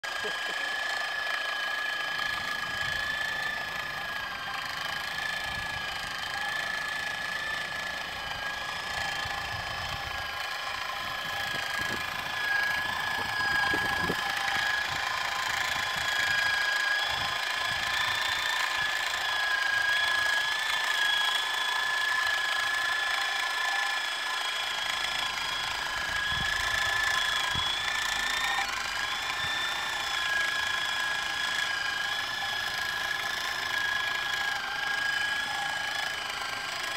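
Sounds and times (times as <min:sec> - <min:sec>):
sewing machine motor whining: 0:00.0 - 0:36.9.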